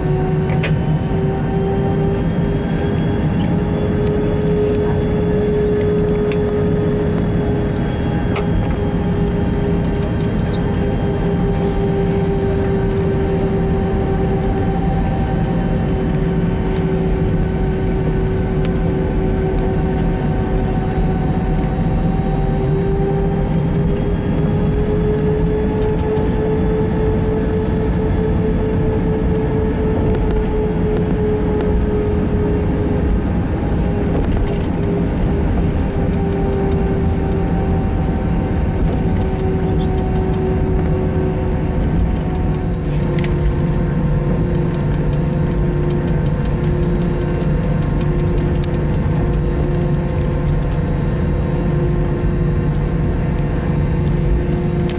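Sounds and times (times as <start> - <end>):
airplane cabin drone: 0.0 - 54.9
hum: 0.0 - 54.9.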